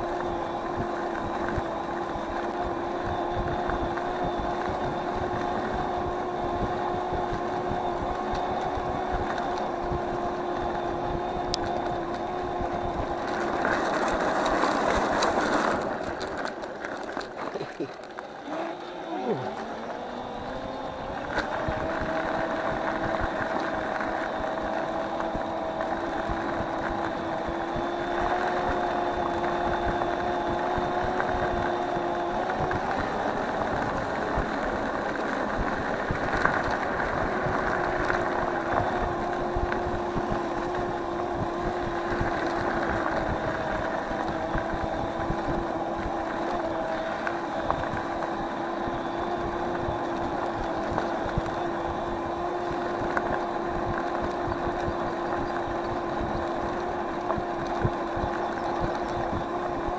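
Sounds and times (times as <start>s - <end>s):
electric scooter motor whining: 0.0s - 59.9s
road and wind noise: 0.0s - 59.9s.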